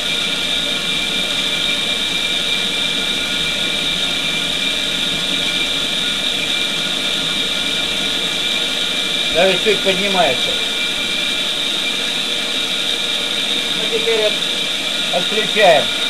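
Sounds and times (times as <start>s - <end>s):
car cooling fan motor whine: 0.0s - 16.0s.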